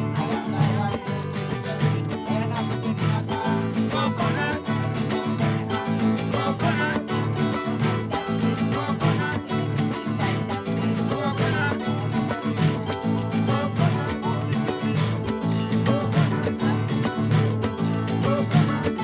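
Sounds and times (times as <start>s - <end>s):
busy percussive beat: 0.0s - 19.0s
plucked and strummed strings: 0.0s - 19.0s.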